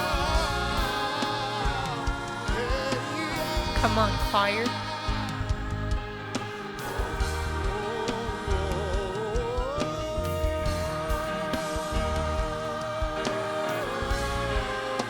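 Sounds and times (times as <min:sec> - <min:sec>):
band with drums and bass: 0:00.0 - 0:15.0
person singing: 0:00.0 - 0:15.0.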